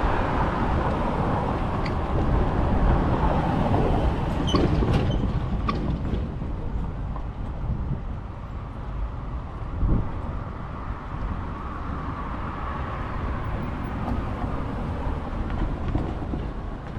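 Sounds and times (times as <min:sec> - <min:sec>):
freight train wheels rumbling on rail: 0:00.0 - 0:16.9.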